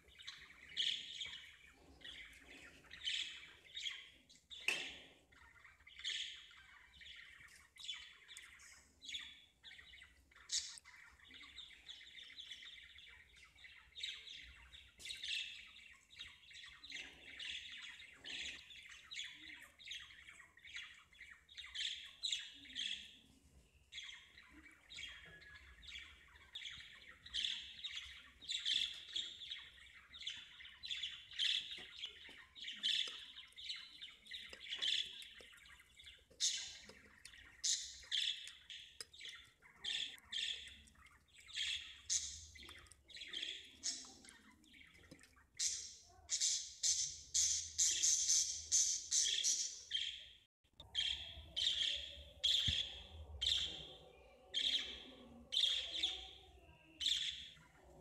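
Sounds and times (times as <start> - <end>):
birds chirping and squawking: 0.0 - 58.0.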